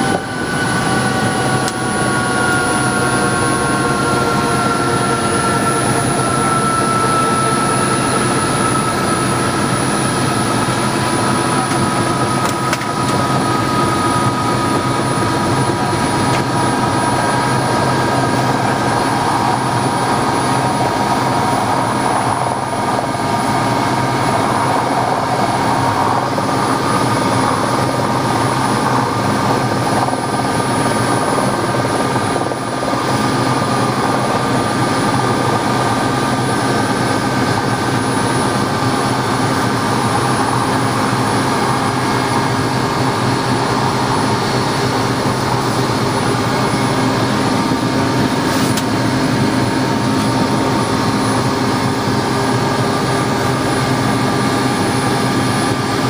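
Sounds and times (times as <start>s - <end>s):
helicopter turbine whine and rotor: 0.0s - 56.0s
second helicopter landing: 0.0s - 56.0s.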